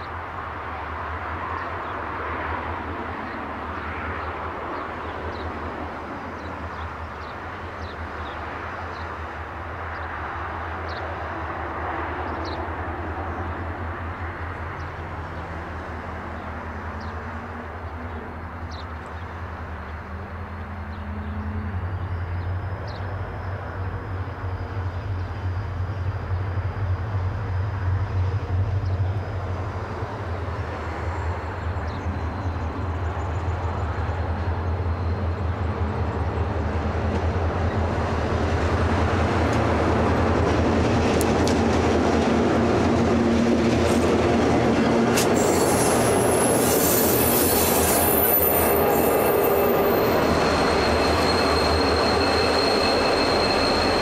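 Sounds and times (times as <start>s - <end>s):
diesel locomotive engines pulsing: 0.0s - 54.0s.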